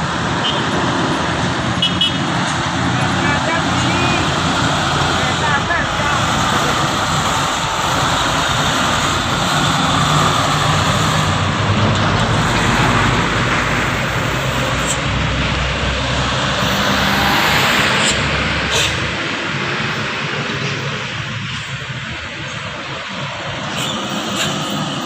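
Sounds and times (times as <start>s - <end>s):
road and mechanical noise: 0.0s - 25.0s
truck engine drone: 0.0s - 25.0s.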